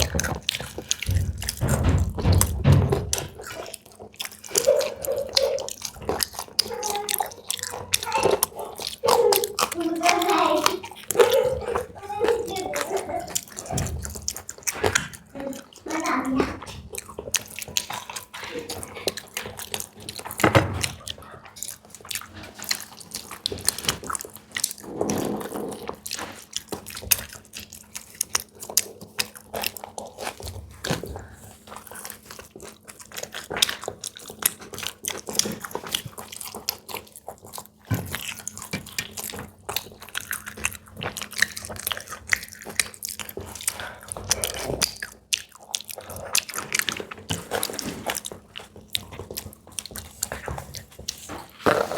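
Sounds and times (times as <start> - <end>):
people chewing crunchy food: 0.0 - 51.9.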